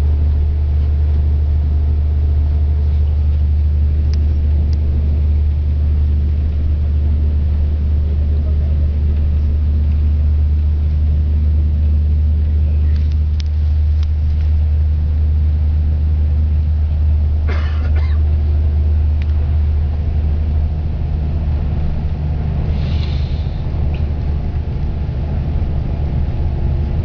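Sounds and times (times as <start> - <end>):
bus engine rumble: 0.0 - 27.0
road noise: 0.0 - 27.0.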